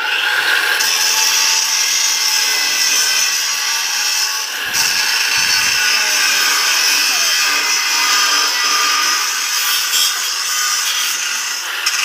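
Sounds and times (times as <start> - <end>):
angle grinder cutting metal: 0.0 - 12.0.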